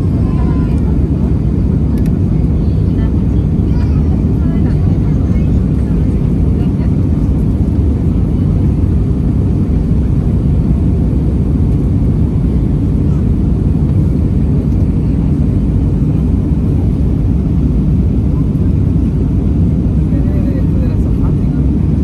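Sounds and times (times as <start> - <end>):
aircraft engine noise: 0.0 - 22.0.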